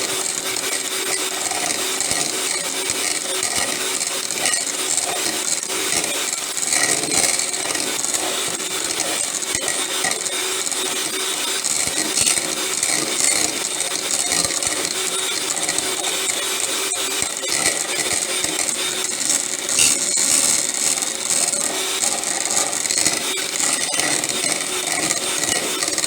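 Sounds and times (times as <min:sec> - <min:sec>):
electric hand mixer running: 0:00.0 - 0:26.0.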